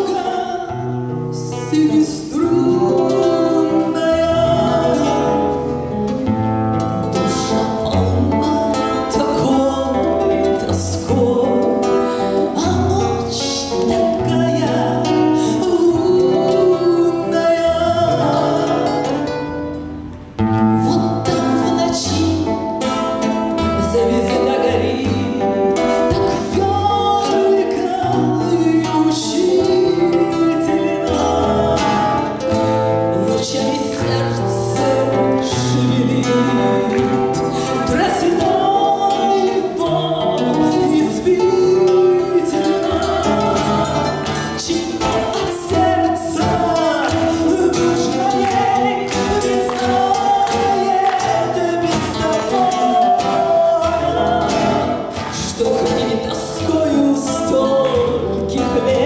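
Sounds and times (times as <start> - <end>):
woman singing: 0.0 - 19.8, 20.6 - 59.0
acoustic guitars playing: 0.0 - 59.0.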